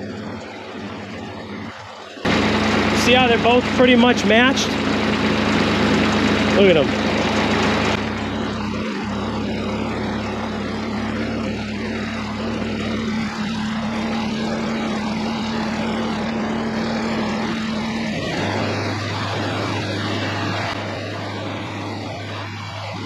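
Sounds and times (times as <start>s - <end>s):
diesel engine running: 0.0s - 23.0s
steady hum: 0.0s - 23.0s.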